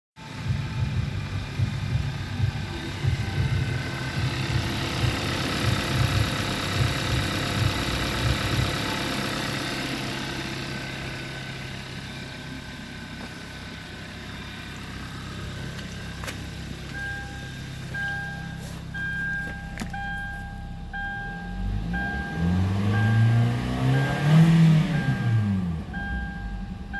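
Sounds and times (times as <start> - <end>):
car engine idling: 0.2 - 26.9
warning chime beeping: 2.0 - 12.9, 13.9 - 26.9.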